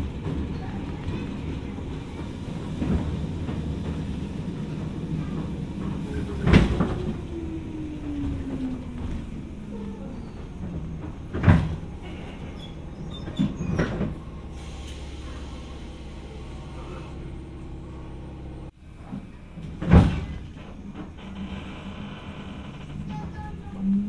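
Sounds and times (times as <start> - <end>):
train equipment humming: 0.0 - 24.0.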